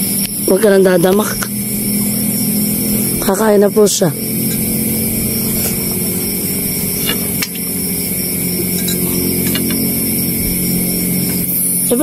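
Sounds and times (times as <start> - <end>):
motor drone: 0.0 - 12.0.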